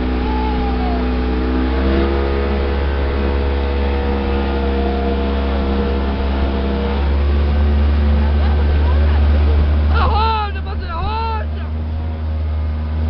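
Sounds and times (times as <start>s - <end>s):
speedboat engine running: 0.0s - 13.0s.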